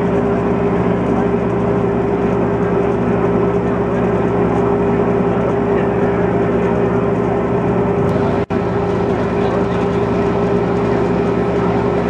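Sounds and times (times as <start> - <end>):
motor droning hum: 0.0 - 12.0.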